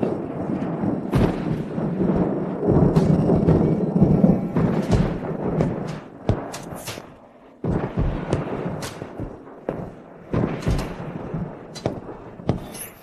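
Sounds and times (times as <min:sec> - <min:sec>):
heavy booming hits with crack: 0:00.1 - 0:12.6.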